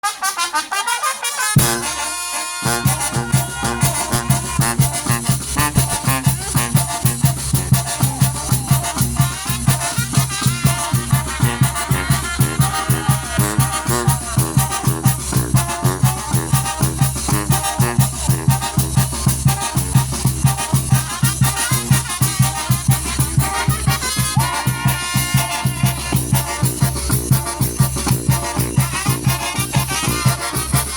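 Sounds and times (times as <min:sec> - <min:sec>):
brass band with drums playing: 0:00.0 - 0:30.9.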